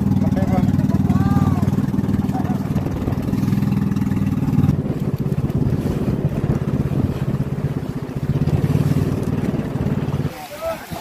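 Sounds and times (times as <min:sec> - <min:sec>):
boat engine running: 0:00.0 - 0:11.0
water rushing along hull: 0:00.0 - 0:11.0.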